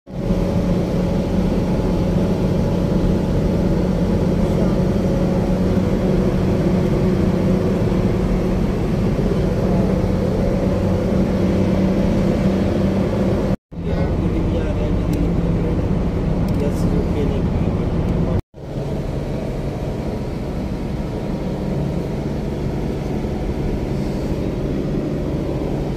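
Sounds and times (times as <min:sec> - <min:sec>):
car engine and tyre drone: 0:00.1 - 0:25.9.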